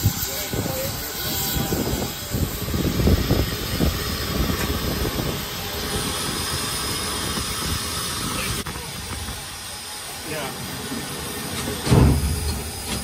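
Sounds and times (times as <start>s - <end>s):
steam locomotive rumbling: 0.0s - 13.0s.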